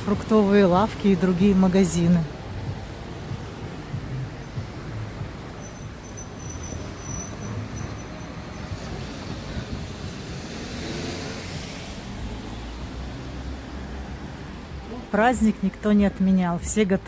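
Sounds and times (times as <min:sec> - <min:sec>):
traffic rumble: 0:00.0 - 0:17.0
vehicle passing: 0:00.0 - 0:17.0.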